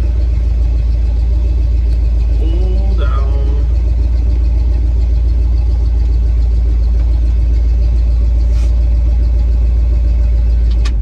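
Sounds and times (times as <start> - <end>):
truck engine deep rumble: 0.0 - 11.0.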